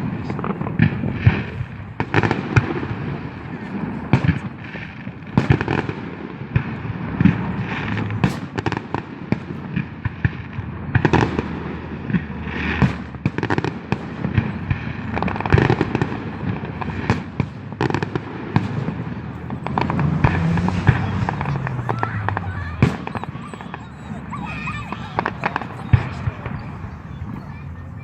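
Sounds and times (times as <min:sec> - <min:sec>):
constant crackle: 0:00.0 - 0:28.0
firecrackers banging: 0:00.0 - 0:28.0.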